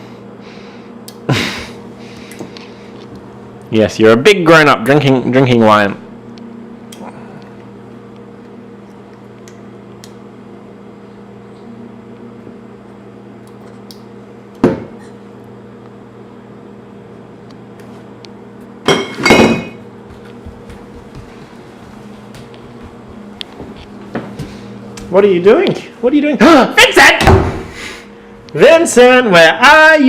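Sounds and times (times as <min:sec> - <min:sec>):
appliance electrical hum: 0:00.0 - 0:30.0.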